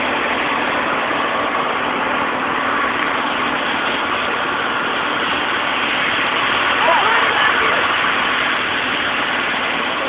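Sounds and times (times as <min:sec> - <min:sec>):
fire engine pump running: 0:00.0 - 0:10.0
water jet spraying: 0:00.0 - 0:10.0.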